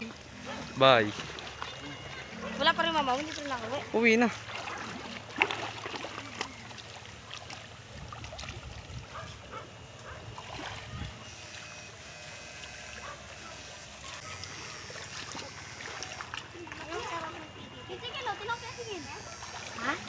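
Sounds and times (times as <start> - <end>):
low steady hum: 0.0 - 20.0
water splashing and sloshing: 0.0 - 20.0.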